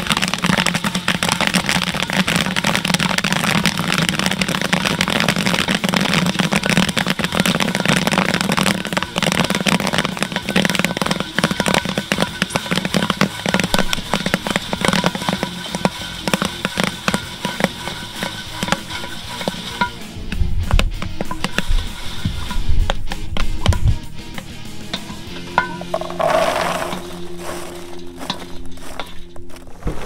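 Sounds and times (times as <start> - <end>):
wooden paddle stirring: 0.0 - 20.1, 20.7 - 24.0, 24.9 - 30.0
popcorn popping: 0.0 - 30.0.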